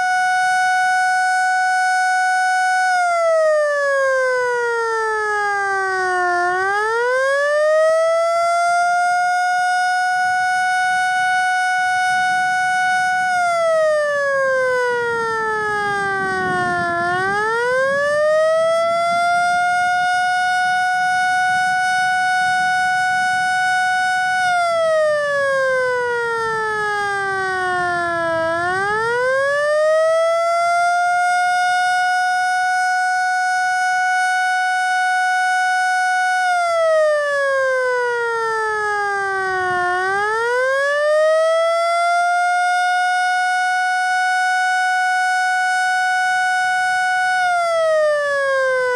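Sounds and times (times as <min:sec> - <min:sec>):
rising and falling siren: 0:00.0 - 0:48.9.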